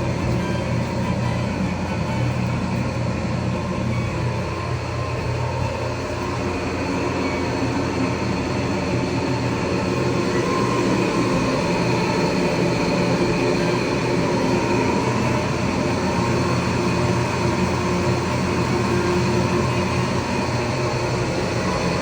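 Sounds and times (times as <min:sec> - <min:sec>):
drying fans whirring: 0:00.0 - 0:22.0.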